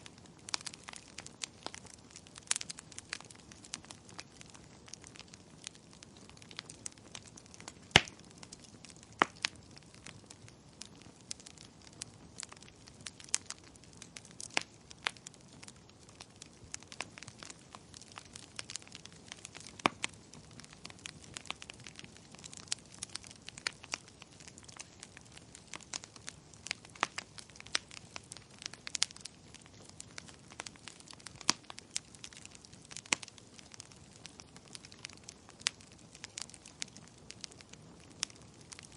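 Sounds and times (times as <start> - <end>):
soft steady hiss: 0.0 - 38.9
wood fire crackling: 0.0 - 38.9.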